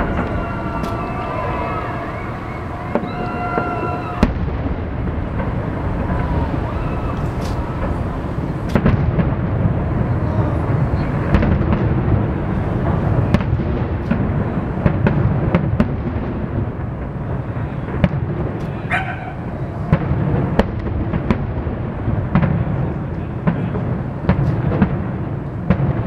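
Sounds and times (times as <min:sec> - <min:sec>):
distant fireworks rumble: 0:00.0 - 0:26.0
sharp firework bangs: 0:00.0 - 0:26.0.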